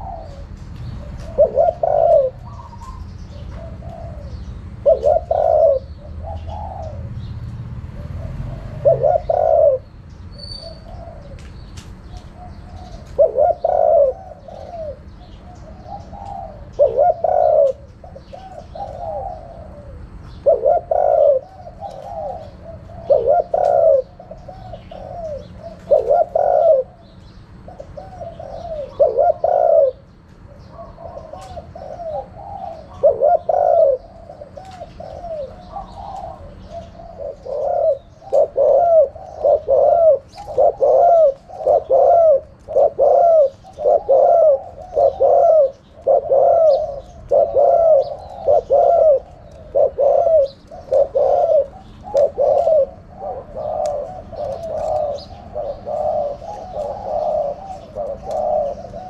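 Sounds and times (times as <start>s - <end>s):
dove cooing: 0.0s - 7.2s, 7.8s - 59.0s.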